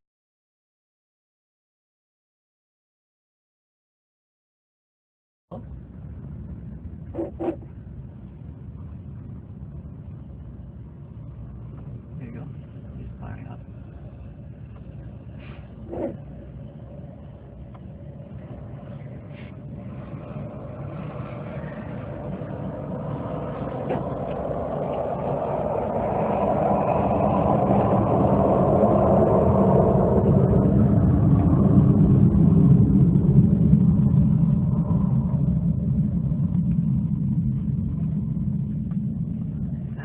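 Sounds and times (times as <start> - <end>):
high engine whine: 5.5 - 40.0
jet engines rumbling: 5.5 - 40.0.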